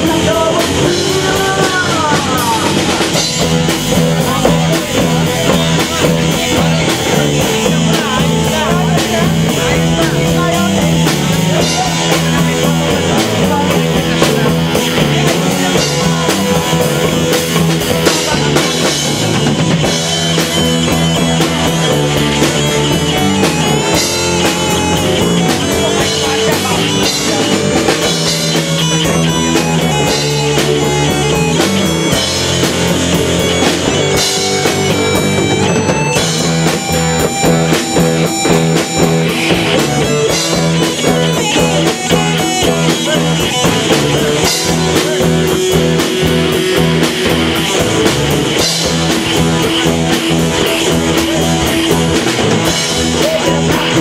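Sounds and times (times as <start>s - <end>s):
rock music with guitar and drums: 0.0s - 54.0s.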